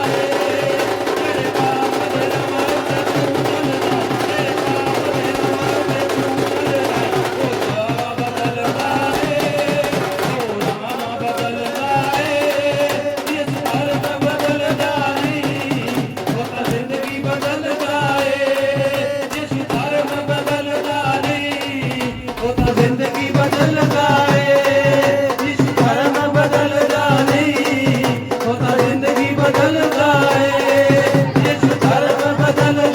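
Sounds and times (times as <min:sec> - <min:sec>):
hand drum beat: 0:00.0 - 0:32.9
worship song melody: 0:00.0 - 0:32.9.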